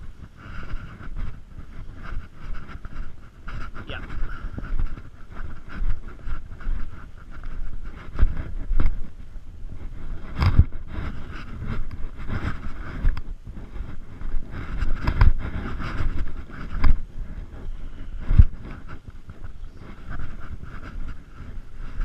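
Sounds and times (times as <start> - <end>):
footsteps in scrub: 0.0 - 22.0
wind on microphone: 0.0 - 22.0.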